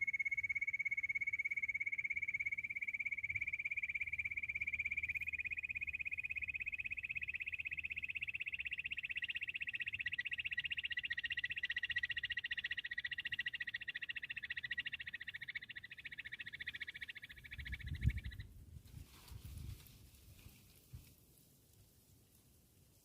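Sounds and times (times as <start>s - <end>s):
bird pulsed trill: 0.0s - 18.5s.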